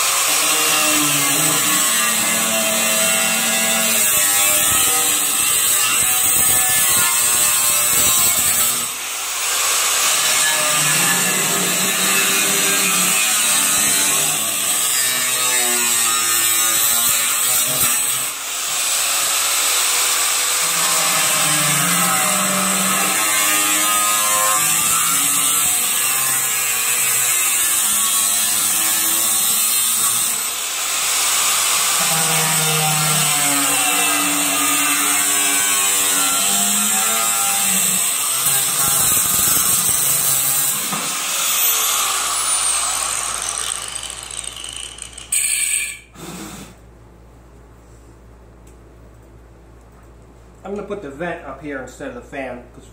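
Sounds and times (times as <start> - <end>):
angle grinder cutting: 0.0 - 46.7.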